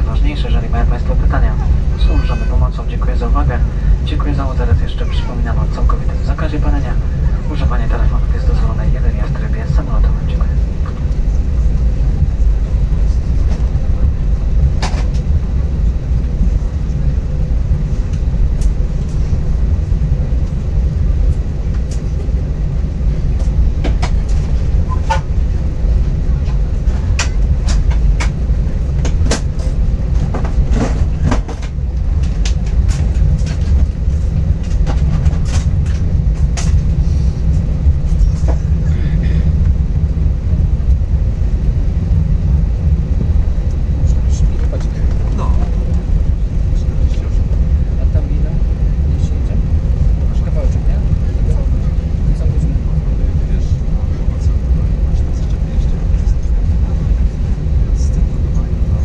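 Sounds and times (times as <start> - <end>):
low rumble of jet engines: 0.0 - 59.0.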